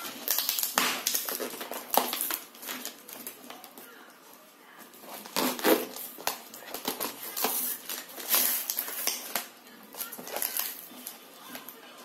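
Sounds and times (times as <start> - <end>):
tape and plastic crinkling: 0.0 - 3.9, 4.9 - 11.8.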